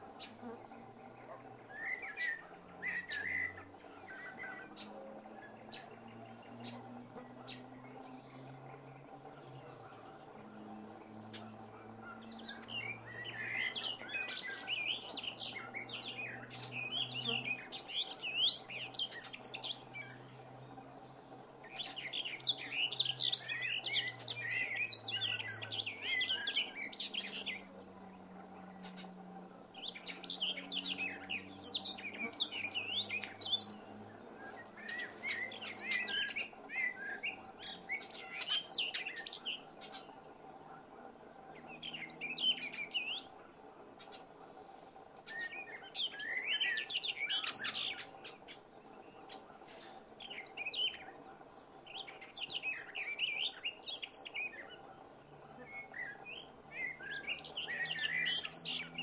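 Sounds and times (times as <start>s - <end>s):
blackbird singing: 0.0s - 59.0s.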